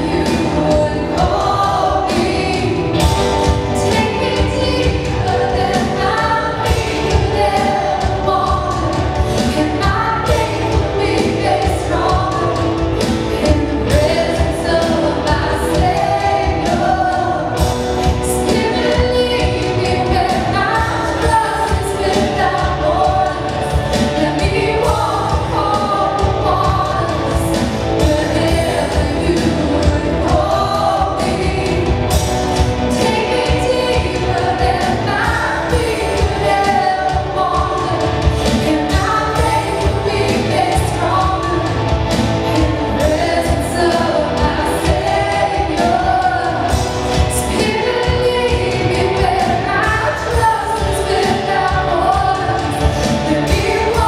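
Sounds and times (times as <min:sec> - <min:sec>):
worship band playing and singing: 0:00.0 - 0:54.0.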